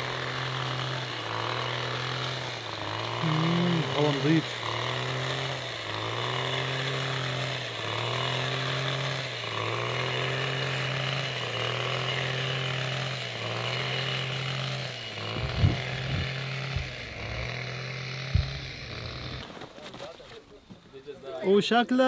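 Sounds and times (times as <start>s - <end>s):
small engine running: 0.0s - 19.7s.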